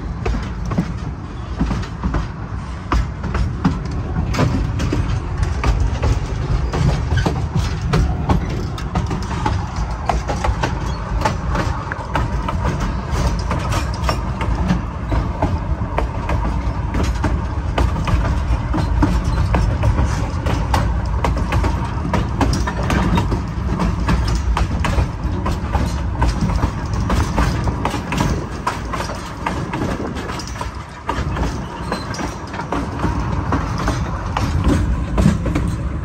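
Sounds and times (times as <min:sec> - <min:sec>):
train car rumbling on track: 0:00.0 - 0:36.0
clicks and knocks from rails: 0:00.1 - 0:36.0.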